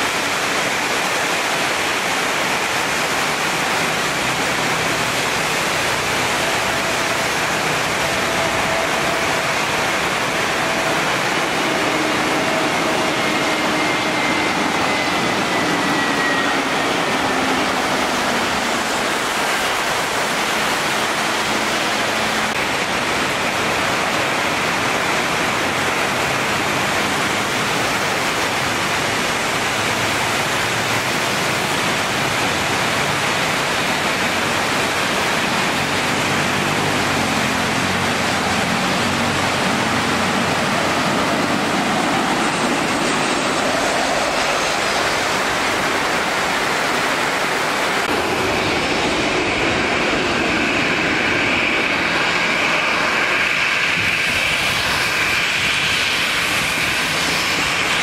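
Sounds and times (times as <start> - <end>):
faint jet engine whine: 0.0 - 58.0
heavy rain pouring: 0.0 - 58.0.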